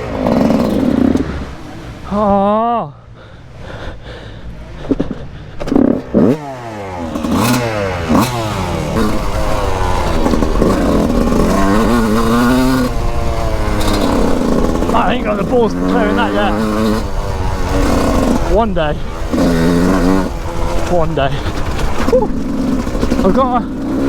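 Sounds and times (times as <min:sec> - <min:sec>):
two-stroke motorcycle engine revving: 0:00.0 - 0:02.3, 0:04.6 - 0:24.0.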